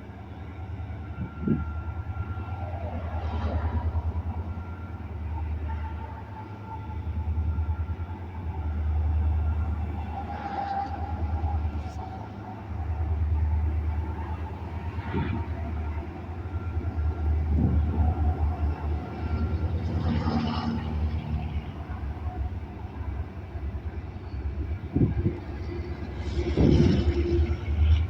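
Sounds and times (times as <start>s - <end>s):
freight train rumbling: 0.0s - 28.0s.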